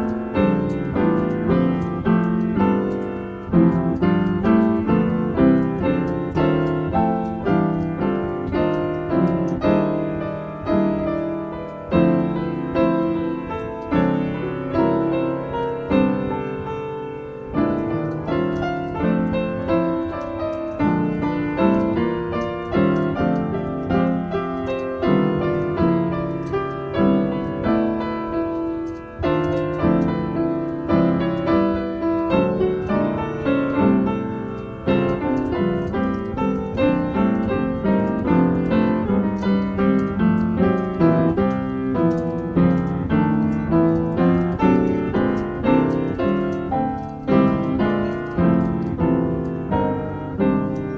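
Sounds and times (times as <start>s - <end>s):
piano improvisation: 0.0s - 50.9s.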